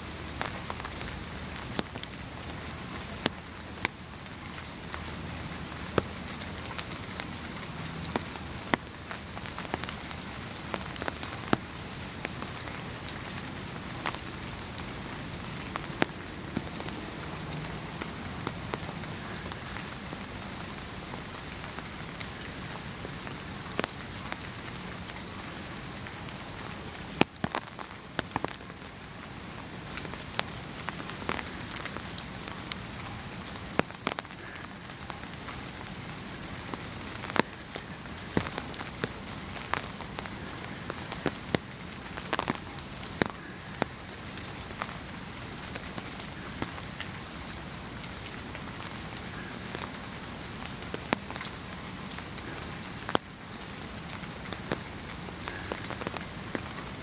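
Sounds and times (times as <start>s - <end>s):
raindrops ticking on hard surface: 0.0s - 57.0s
steady rain hiss: 0.0s - 57.0s.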